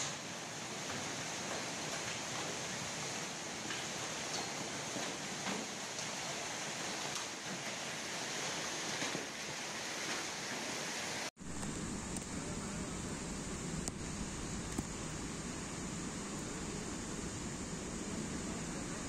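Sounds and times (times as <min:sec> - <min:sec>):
low rushing floodwater: 0:00.0 - 0:19.0
runoff water rushing: 0:00.0 - 0:19.0
torrential rain pouring: 0:00.0 - 0:19.0.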